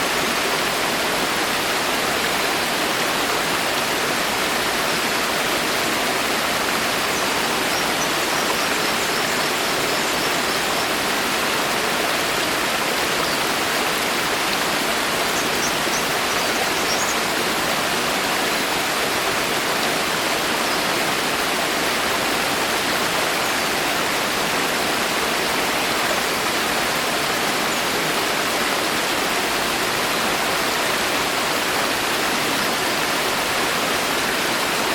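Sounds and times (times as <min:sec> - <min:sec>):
rain falling in a forest: 0:00.0 - 0:34.9.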